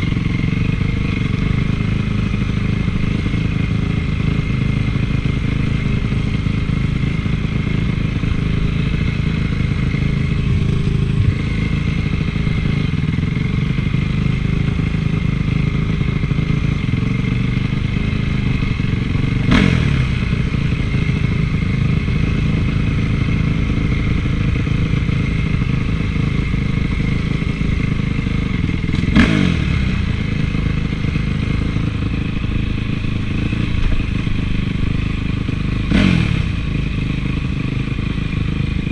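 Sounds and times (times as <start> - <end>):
motocross engine running: 0.0 - 38.9.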